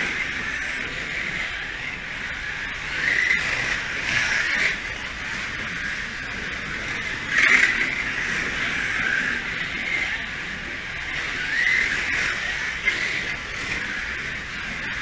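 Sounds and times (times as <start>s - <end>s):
slot-car motors whining: 0.0s - 15.0s.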